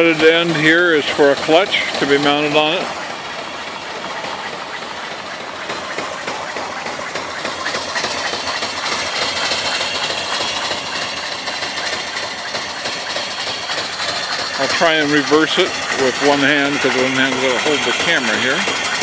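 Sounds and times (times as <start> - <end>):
steam engine running: 0.0 - 19.0
steam hissing: 0.0 - 19.0.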